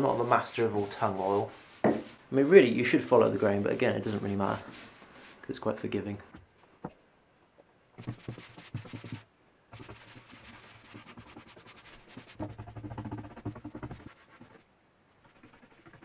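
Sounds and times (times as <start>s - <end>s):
paintbrush strokes on wood: 0.0s - 5.7s, 8.0s - 9.2s, 9.8s - 16.0s.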